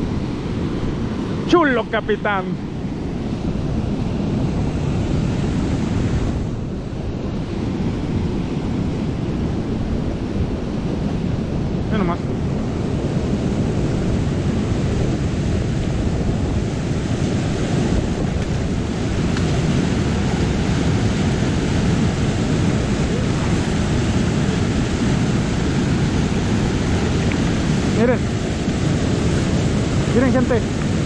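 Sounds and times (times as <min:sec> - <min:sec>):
river rushing over rapids: 0:00.0 - 0:31.0.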